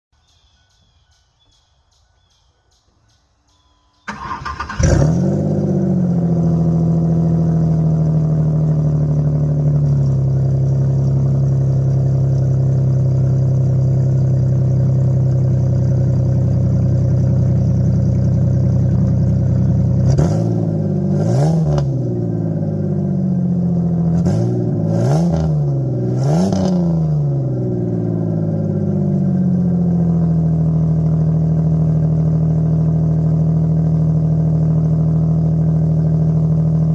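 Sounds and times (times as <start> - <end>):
truck engine idling and revving: 4.1 - 36.9.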